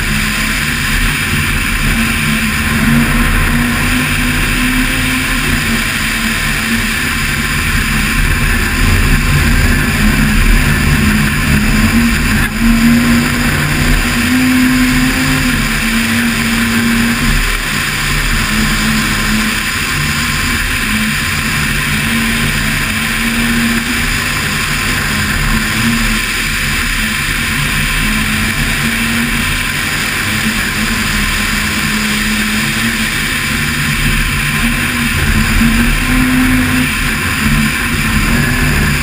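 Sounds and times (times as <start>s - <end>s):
rally car engine running hard: 0.0s - 39.0s
road and wind noise: 0.0s - 39.0s.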